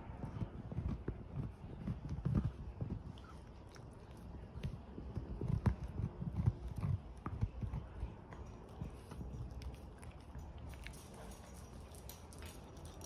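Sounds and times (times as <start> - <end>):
dog gnawing wood: 0.2 - 13.0.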